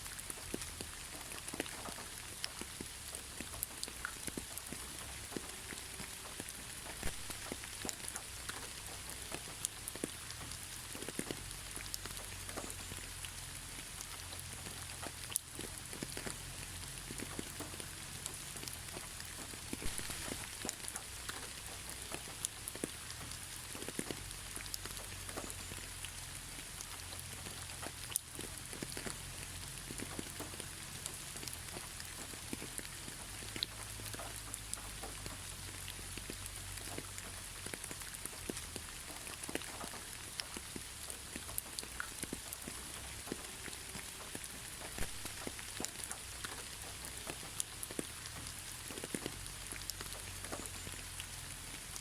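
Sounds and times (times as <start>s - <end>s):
gentle rain pattering: 0.0s - 52.0s.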